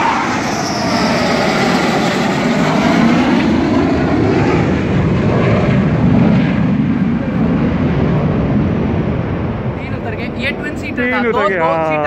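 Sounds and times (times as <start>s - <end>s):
jet passing low overhead: 0.0s - 12.0s.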